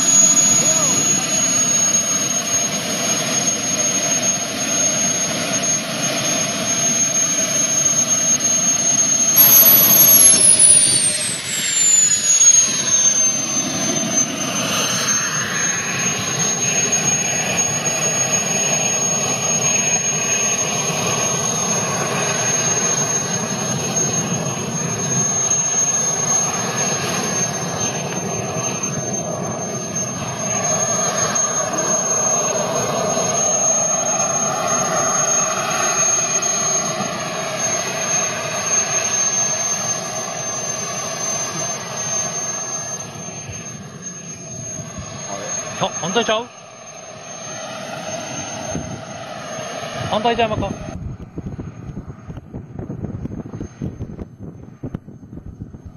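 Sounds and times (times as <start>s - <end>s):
higher whine gliding down: 0.0s - 55.9s
model jet turbine whine: 0.0s - 55.9s.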